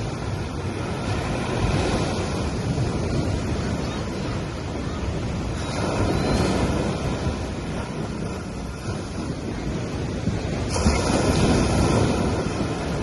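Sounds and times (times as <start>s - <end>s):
ocean waves on beach: 0.0s - 13.0s.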